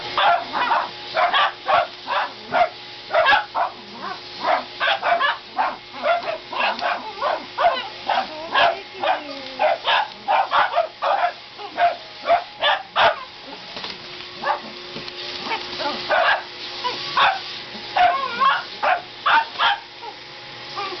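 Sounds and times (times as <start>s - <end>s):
vacuum cleaner hum: 0.0s - 21.0s
dogs barking: 0.1s - 13.7s, 14.4s - 14.8s, 15.4s - 21.0s.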